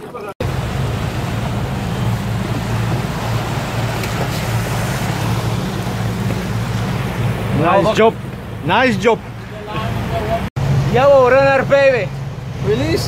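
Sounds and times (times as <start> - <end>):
boat engine droning: 0.4 - 13.0.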